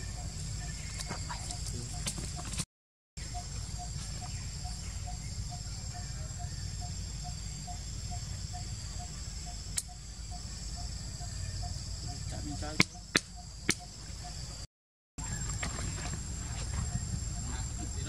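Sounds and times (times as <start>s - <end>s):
insect drone: 0.0s - 2.6s, 3.2s - 18.0s.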